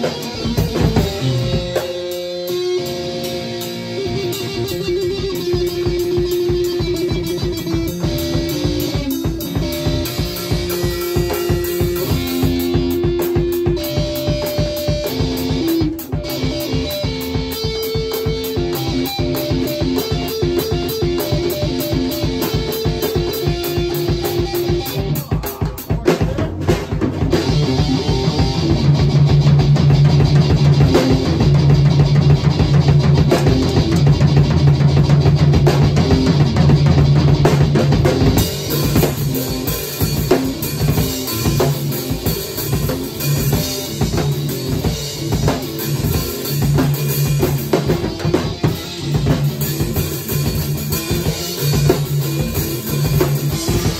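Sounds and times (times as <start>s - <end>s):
drum kit: 0.0s - 53.9s
electric guitar: 0.0s - 53.9s.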